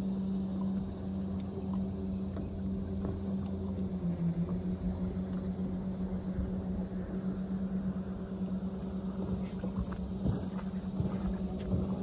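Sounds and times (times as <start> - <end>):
electric trolling motor humming: 0.0 - 12.0
low rumble of wind and water: 0.0 - 12.0.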